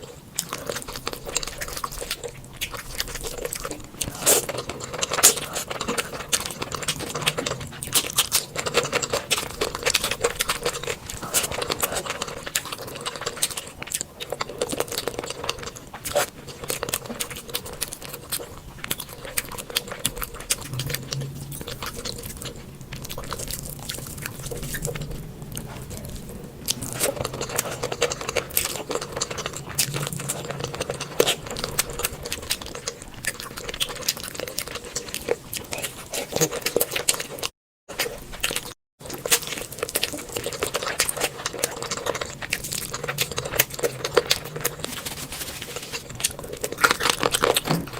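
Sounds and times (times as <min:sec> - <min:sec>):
wet chewing and crunching: 0:00.0 - 0:47.9.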